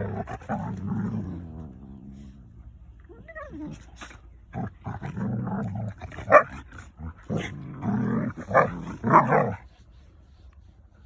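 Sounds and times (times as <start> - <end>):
dogs growling and snarling: 0.0 - 9.7.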